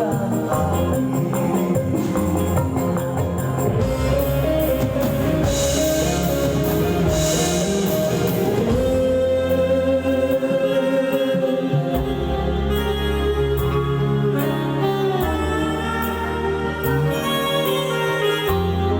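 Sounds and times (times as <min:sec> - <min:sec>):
live band instrumental music: 0:00.0 - 0:18.9.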